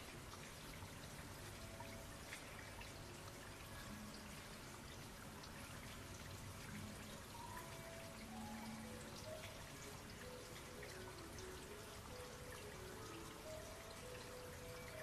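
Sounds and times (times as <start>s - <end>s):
rain falling: 0.0s - 15.0s
soft music: 0.0s - 15.0s.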